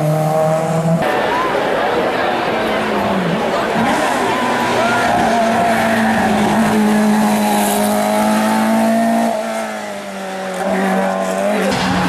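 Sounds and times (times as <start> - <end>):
race car engine at high revs: 0.0 - 1.4, 2.6 - 12.0.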